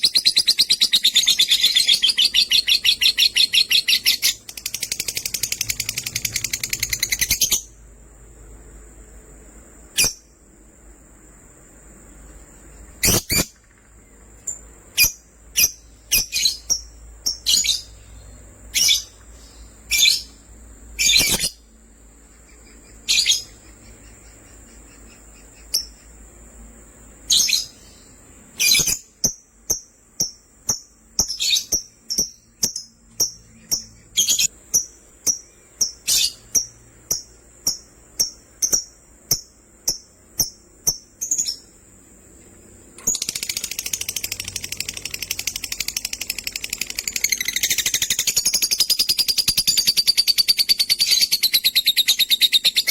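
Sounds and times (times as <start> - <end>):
lovebirds chirping: 0.0 - 7.8, 12.0 - 41.9, 42.8 - 52.9.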